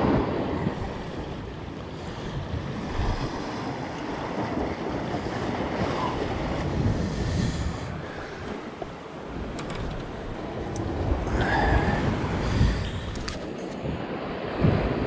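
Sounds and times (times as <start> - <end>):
sea surf washing against rocks: 0.0 - 15.0
wind buffeting the microphone: 0.0 - 15.0.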